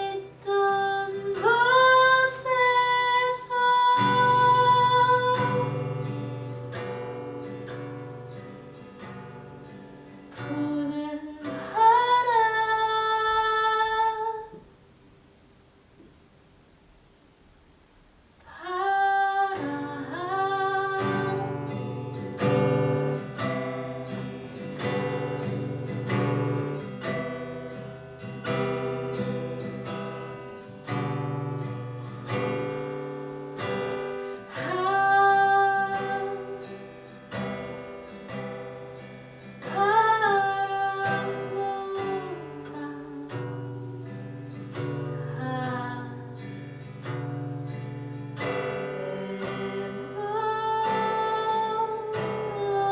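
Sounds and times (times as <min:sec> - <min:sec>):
acoustic guitar strummed and plucked: 0:00.0 - 0:14.8, 0:18.4 - 0:52.9.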